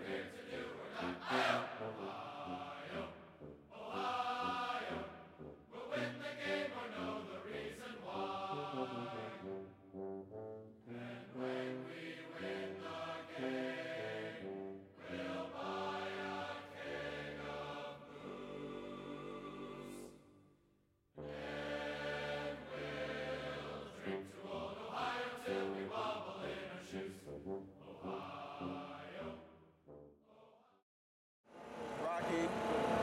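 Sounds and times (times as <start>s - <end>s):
choir singing held notes: 0.0s - 9.6s, 10.9s - 20.2s, 21.2s - 29.4s.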